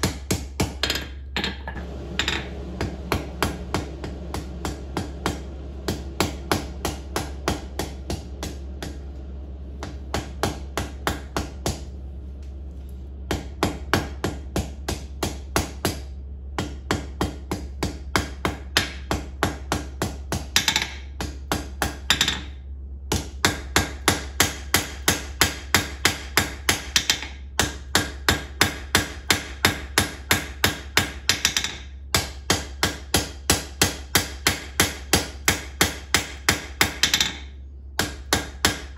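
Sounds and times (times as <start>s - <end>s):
hammer striking hot steel on anvil: 0.0s - 9.0s, 9.8s - 11.9s, 13.3s - 38.9s.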